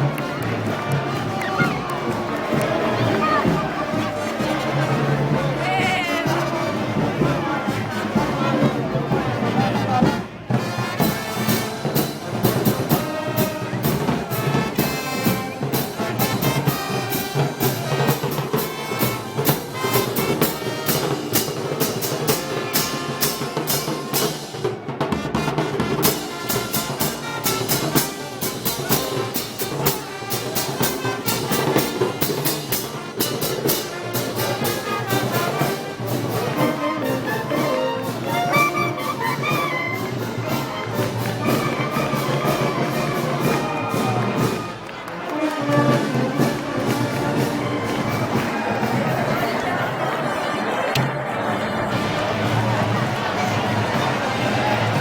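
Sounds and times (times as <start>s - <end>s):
drums and cymbals beat: 0.0s - 44.9s, 45.7s - 50.4s
brass band playing: 0.0s - 55.0s.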